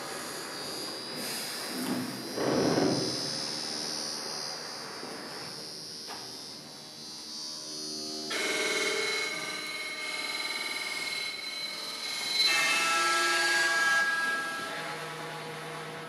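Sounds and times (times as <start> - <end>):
electronic humming drone: 0.0 - 16.0
high electronic whine: 0.0 - 16.0.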